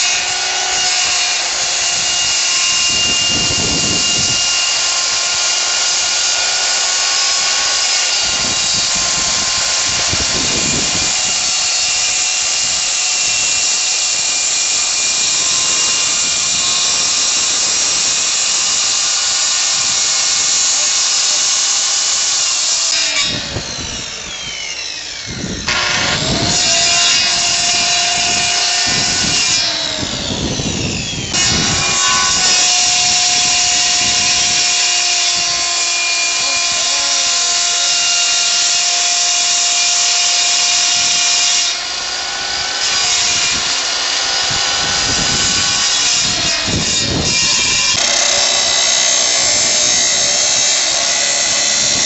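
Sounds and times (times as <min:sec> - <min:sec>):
electric power tool cutting: 0:00.0 - 0:52.0.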